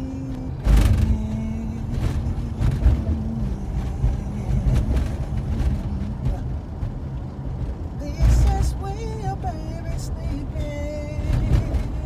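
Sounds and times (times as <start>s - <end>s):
vehicle rumble and hum: 0.0s - 12.0s.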